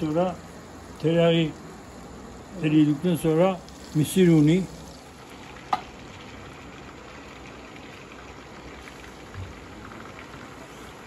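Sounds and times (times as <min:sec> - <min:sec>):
butter sizzling in a pan: 0:00.0 - 0:11.0.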